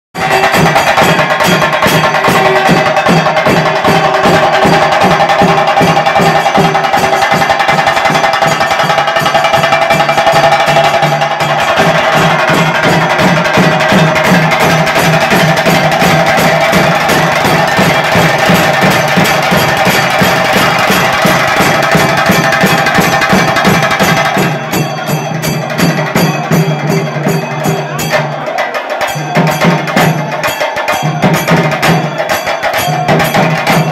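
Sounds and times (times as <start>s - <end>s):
fast percussion music: 0.2s - 33.9s.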